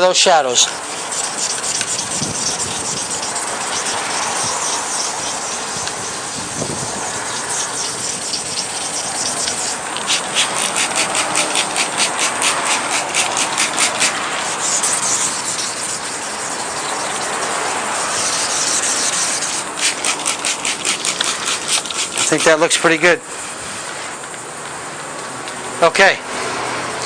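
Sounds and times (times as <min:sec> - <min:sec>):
sandpaper rubbing on plastic: 0:00.2 - 0:24.2.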